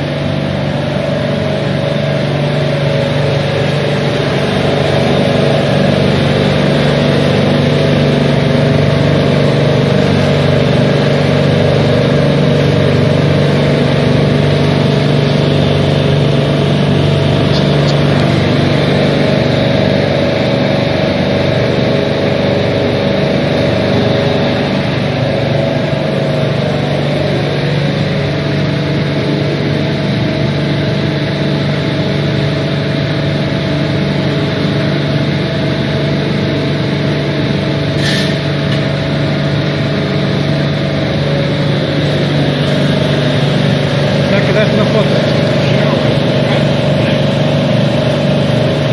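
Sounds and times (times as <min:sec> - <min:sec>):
refrigeration compressor humming: 0:00.0 - 0:48.9.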